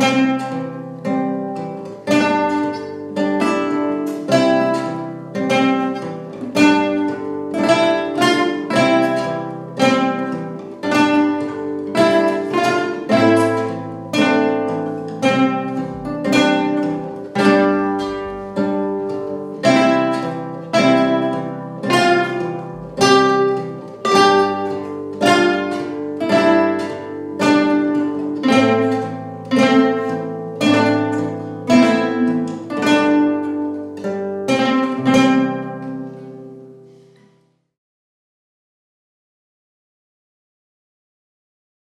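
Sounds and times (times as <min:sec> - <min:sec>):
solo guitar playing: 0:00.0 - 0:37.4.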